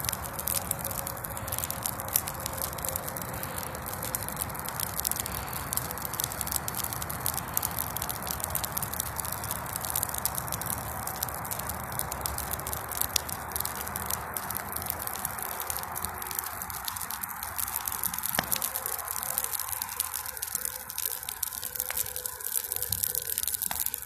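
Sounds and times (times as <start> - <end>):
steady rushing noise: 0.0 - 22.0
bonfire crackling and popping: 0.0 - 24.0.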